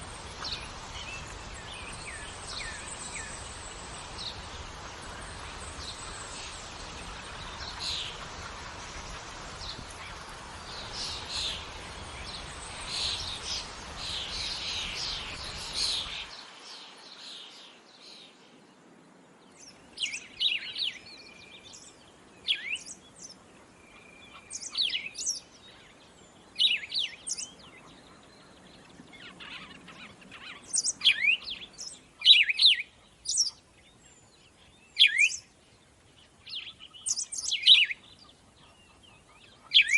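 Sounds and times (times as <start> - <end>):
birds chirping: 0.0 - 39.9
steady outdoor hiss: 0.0 - 39.9.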